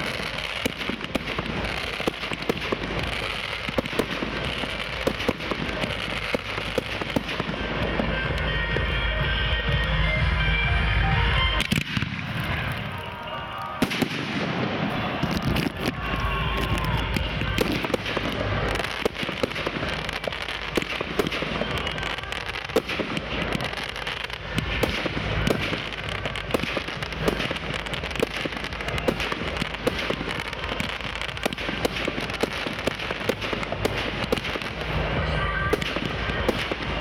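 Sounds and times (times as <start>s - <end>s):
fireworks bangs and pops: 0.0s - 37.0s
fireworks crackle: 0.0s - 37.0s.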